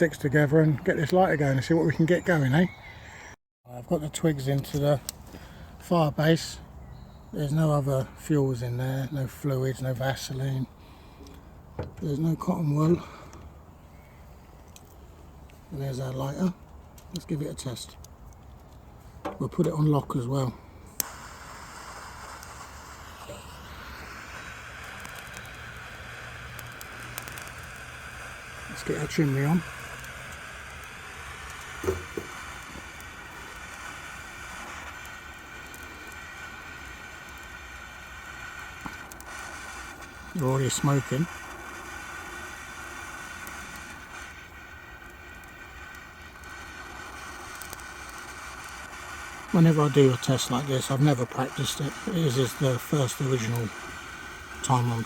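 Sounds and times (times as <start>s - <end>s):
twigs crackling in flame: 0.0s - 2.8s, 4.2s - 55.0s
blow torch jet hiss: 7.6s - 18.0s, 18.9s - 55.0s.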